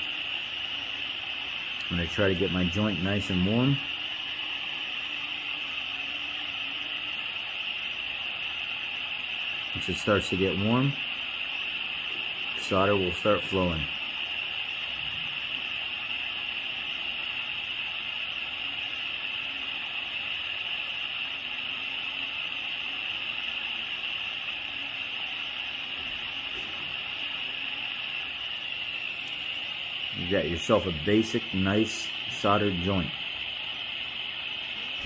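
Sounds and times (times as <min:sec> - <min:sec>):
blowtorch hissing: 0:00.0 - 0:35.0.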